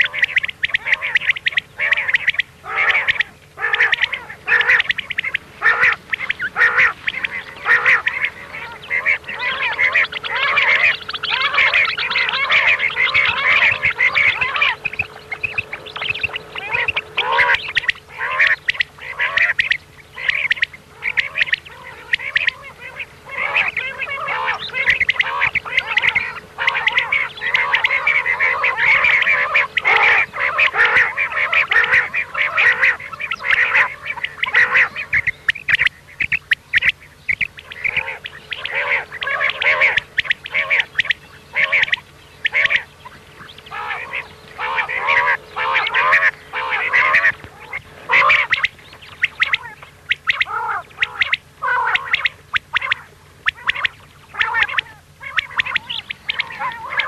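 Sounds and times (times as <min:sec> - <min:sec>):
faint steady hum: 0:00.0 - 0:57.0
quail calling chorus: 0:00.0 - 0:57.0.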